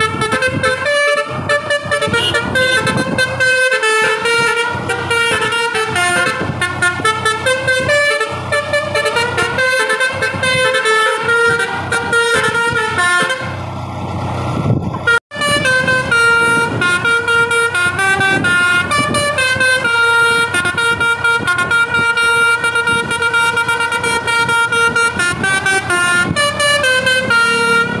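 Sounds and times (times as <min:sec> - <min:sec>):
bus horn playing a melody: 0:00.0 - 0:13.7, 0:15.0 - 0:28.0
engine rumble: 0:00.0 - 0:28.0.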